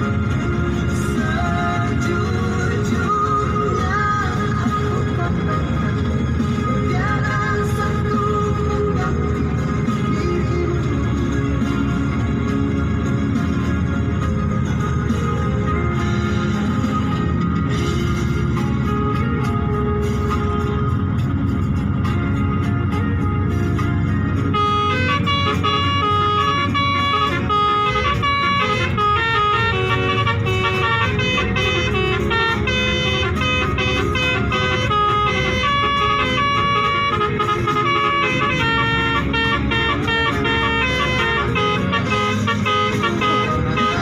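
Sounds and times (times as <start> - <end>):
bus multi-tone horn tune: 0.0 - 44.0
sustained organ-like melody: 0.0 - 44.0.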